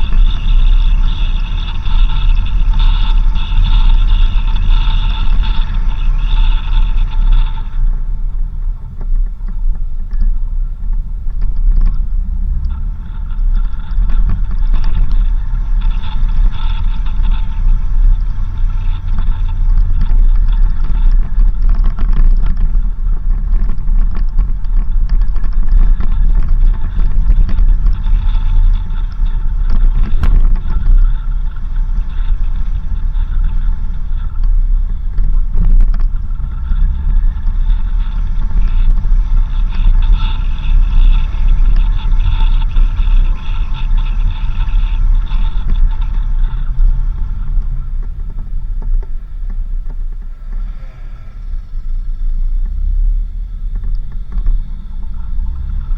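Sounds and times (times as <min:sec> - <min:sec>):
vehicle engine and tyres rumbling: 0:00.0 - 0:55.9.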